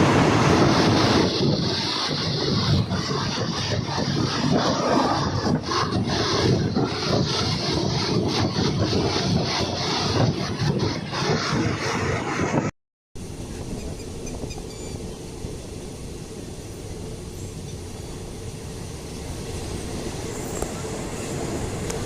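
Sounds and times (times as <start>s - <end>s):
rushing air: 0.0s - 22.0s
train rumbling: 0.0s - 22.0s.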